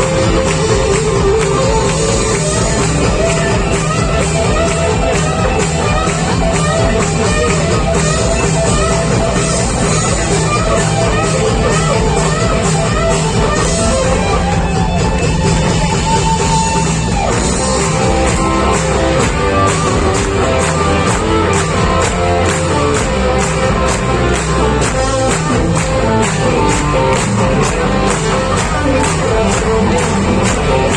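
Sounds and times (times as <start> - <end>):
drums beating: 0.0 - 30.9
electric guitars: 0.0 - 30.9.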